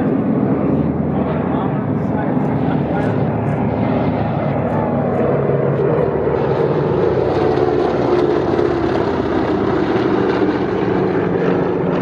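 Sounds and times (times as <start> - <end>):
propeller planes droning by: 0.0 - 12.0.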